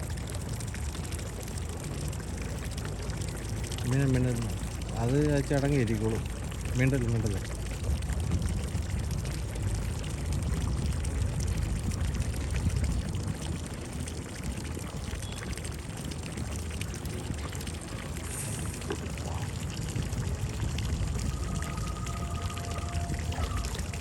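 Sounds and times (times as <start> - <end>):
low steady rumble: 0.0 - 24.0
water splashing and sloshing: 0.0 - 24.0.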